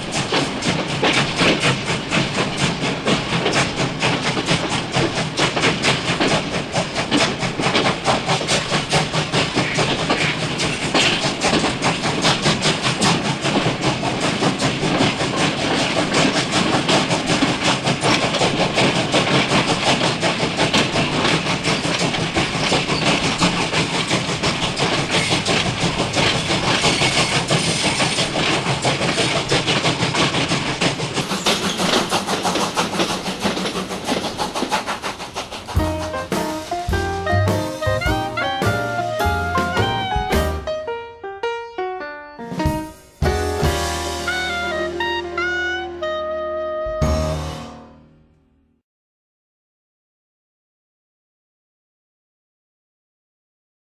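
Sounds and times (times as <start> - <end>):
steam locomotive chuffing: 0.0 - 40.8, 42.6 - 48.2
train wheels clacking over rails: 0.0 - 40.8, 42.4 - 45.9.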